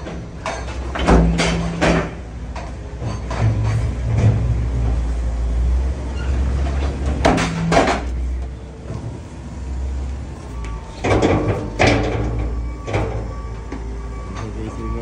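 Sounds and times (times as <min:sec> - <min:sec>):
heavy machine clunks: 0:00.0 - 0:05.1, 0:06.0 - 0:09.4, 0:10.5 - 0:15.0.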